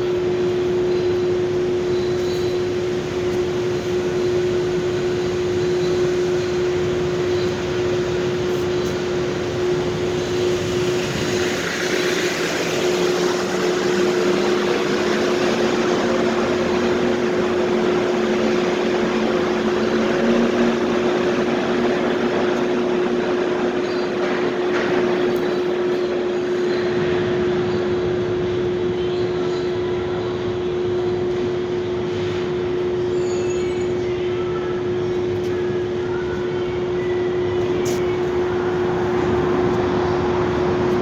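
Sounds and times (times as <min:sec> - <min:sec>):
machinery hum with constant tone: 0:00.0 - 0:41.0
vehicle noise: 0:00.0 - 0:41.0.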